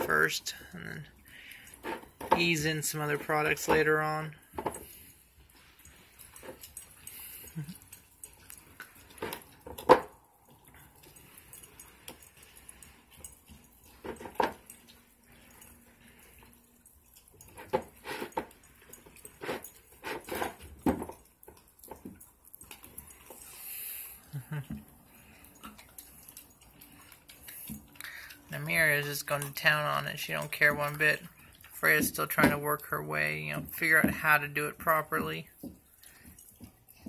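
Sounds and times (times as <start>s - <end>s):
puppies crunching bones: 0.0s - 37.0s
puppies licking: 0.0s - 37.0s.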